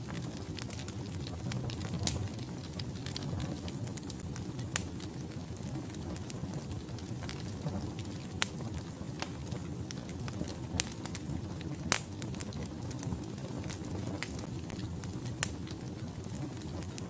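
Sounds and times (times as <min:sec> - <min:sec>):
fire flames rumbling: 0:00.0 - 0:17.0
logs crackling and popping: 0:00.0 - 0:17.0.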